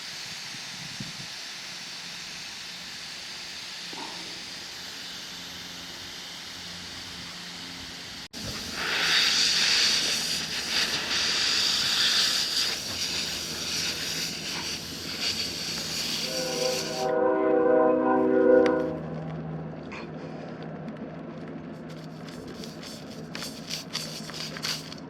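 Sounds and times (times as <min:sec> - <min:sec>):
air hissing out of tire: 0:00.0 - 0:17.2, 0:21.9 - 0:25.0.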